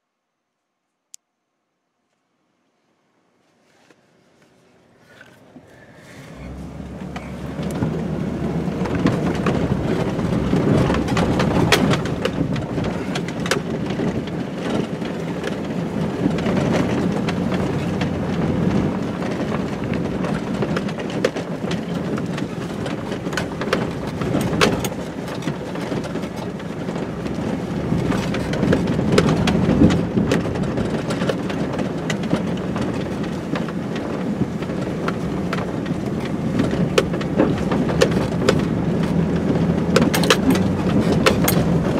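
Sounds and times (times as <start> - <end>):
truck engine and tyres rumbling: 3.0 - 41.9
truck knocks and rattles: 6.3 - 41.9.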